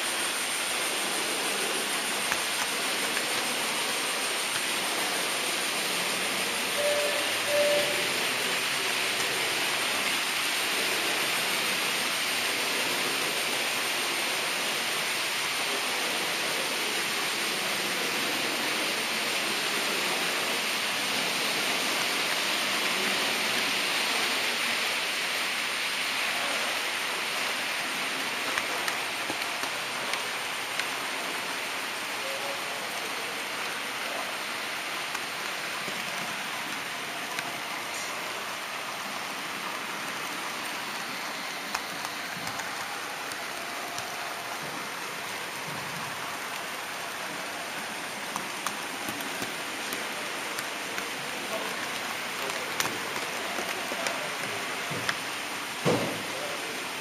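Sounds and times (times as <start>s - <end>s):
model train rolling on track: 0.0s - 57.0s.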